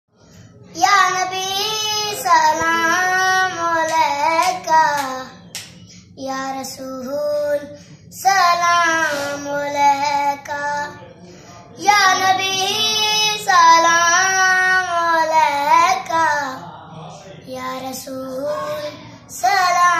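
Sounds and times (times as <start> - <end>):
boy singing unaccompanied: 0.7 - 5.4, 6.2 - 11.0, 11.8 - 16.6, 17.5 - 19.9.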